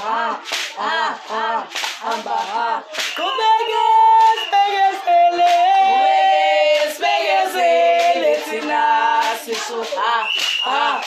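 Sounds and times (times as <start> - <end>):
women singing in harmony: 0.0 - 11.0.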